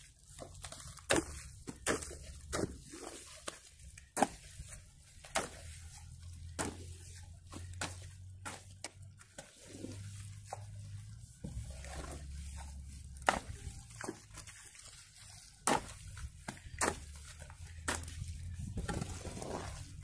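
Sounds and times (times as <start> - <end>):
hoe chopping wet mud: 0.2 - 20.0.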